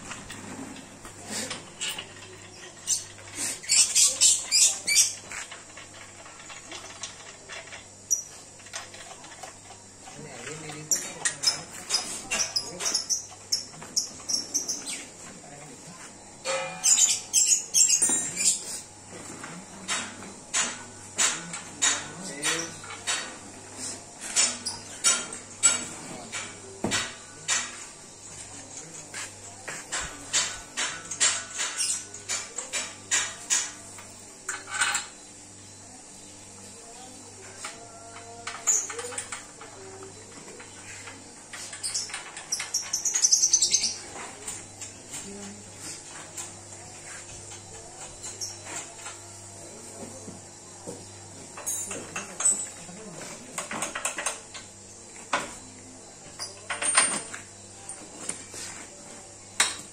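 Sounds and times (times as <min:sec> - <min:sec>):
sharp metallic clinks and scrapes: 0:00.2 - 0:15.3, 0:15.9 - 0:36.2, 0:37.5 - 0:49.3, 0:51.6 - 0:54.7.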